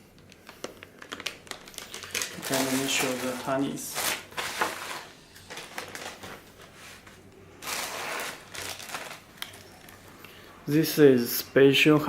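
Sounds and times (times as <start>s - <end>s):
packaging rustling and crinkling: 0.0s - 10.1s.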